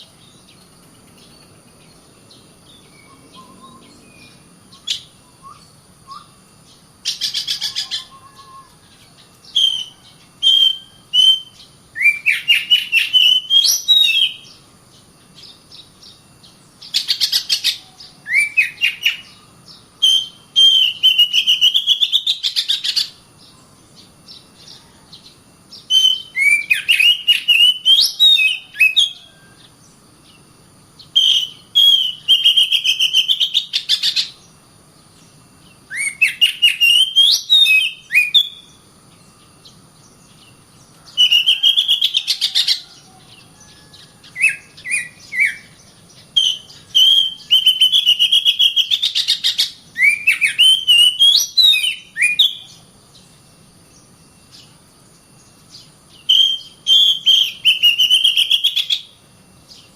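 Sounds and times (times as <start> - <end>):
bird singing chattering notes: 0.0 - 59.9.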